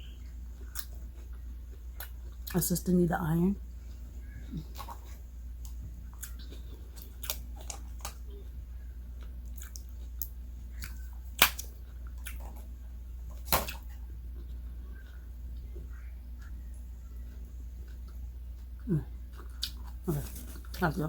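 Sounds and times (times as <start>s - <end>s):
person chewing: 0.1s - 2.6s, 3.8s - 8.4s, 9.1s - 12.7s, 13.6s - 20.8s.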